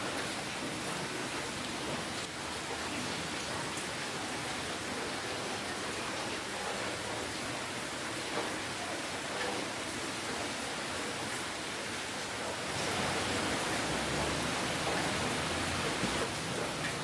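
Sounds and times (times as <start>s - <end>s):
raindrops pattering: 0.0s - 17.0s
steady rain hiss: 0.0s - 17.0s.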